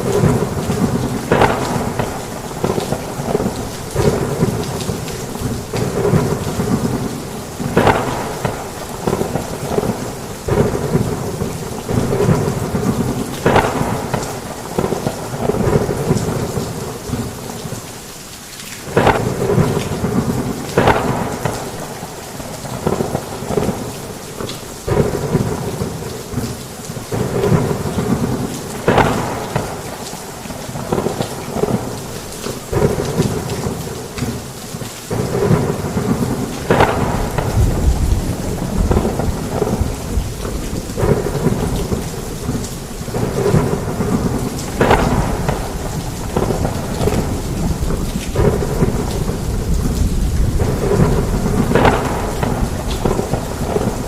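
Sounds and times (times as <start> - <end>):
sharp thunderclap: 0.0 - 17.2, 18.9 - 22.1, 24.9 - 26.5, 27.1 - 32.0, 32.6 - 34.4, 35.1 - 54.0
thunder crackling and rumbling: 0.0 - 17.9, 18.8 - 54.0
heavy rain: 0.0 - 54.0.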